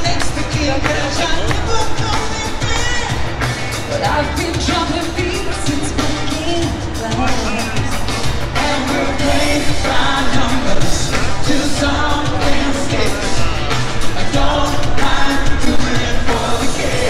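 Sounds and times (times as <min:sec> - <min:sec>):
lead singer singing: 0:00.0 - 0:17.0
pop-rock band playing: 0:00.0 - 0:17.0.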